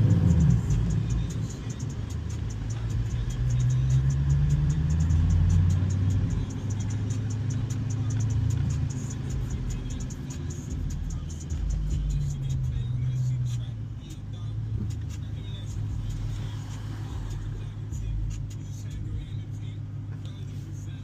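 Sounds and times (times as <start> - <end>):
car engine running while driving: 0.0 - 21.0.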